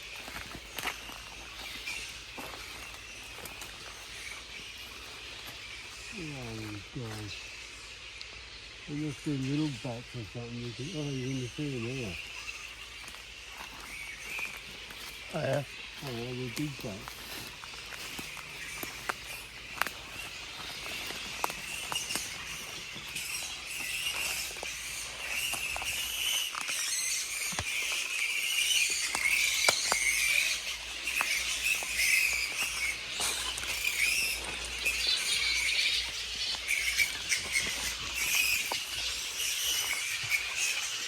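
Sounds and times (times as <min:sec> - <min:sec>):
fruit bats squealing: 0:00.0 - 0:41.0.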